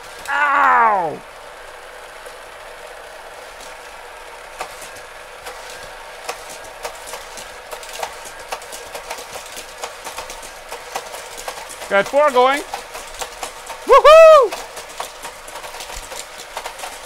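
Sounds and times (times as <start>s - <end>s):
toy cars clicking on plastic track: 1.6s - 17.0s
toy motor whirring: 3.3s - 17.0s.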